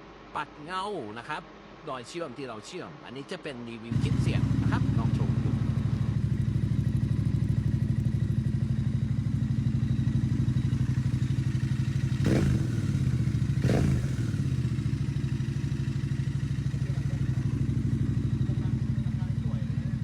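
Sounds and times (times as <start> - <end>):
motorcycle engine idling: 3.9 - 20.0.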